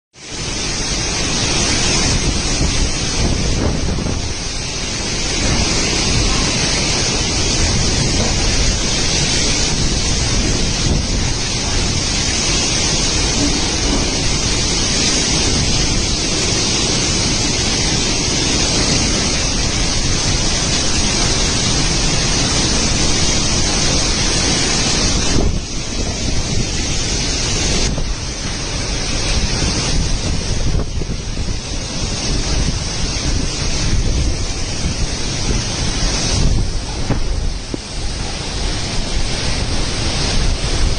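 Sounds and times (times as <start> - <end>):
heavy rain pouring: 0.1 - 40.9
wind rumble on microphone: 0.2 - 40.9.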